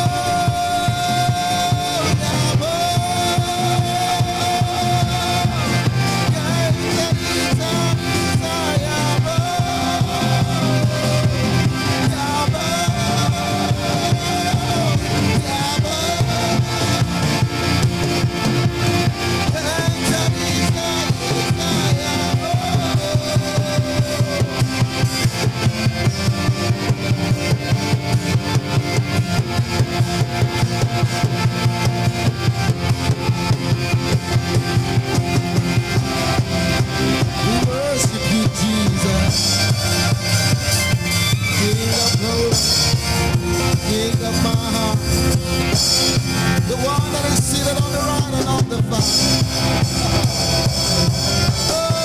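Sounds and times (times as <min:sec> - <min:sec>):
drum kit beat: 0:00.0 - 0:52.0
gliding lead melody: 0:00.0 - 0:52.0
worship band music: 0:00.0 - 0:52.0.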